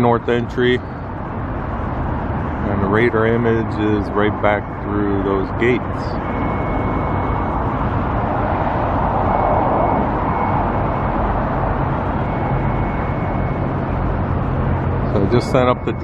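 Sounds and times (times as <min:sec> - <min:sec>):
road traffic noise: 0:00.0 - 0:16.0
vehicle passing: 0:00.0 - 0:16.0.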